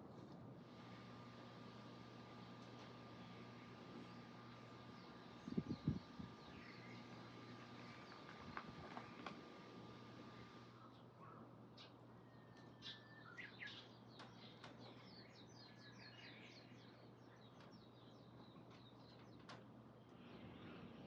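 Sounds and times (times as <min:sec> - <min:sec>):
faint birdsong chirps: 0:00.8 - 0:21.0.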